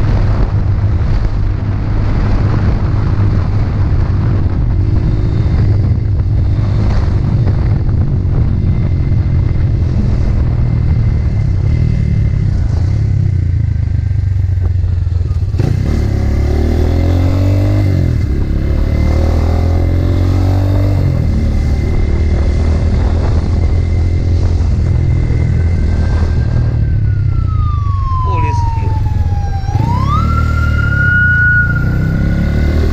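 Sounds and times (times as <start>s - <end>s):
motorcycle engine running: 0.0s - 30.6s
road noise: 0.0s - 32.9s.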